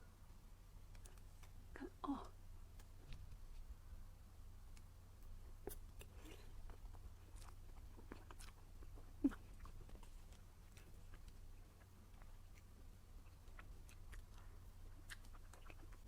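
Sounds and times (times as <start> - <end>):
soft chewing: 0.6 - 16.0.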